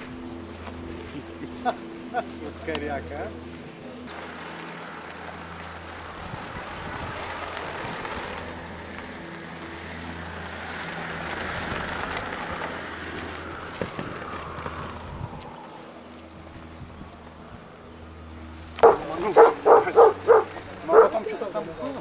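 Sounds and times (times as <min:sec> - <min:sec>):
propeller plane engine droning: 0:00.0 - 0:22.0
steady low hum: 0:00.0 - 0:22.0.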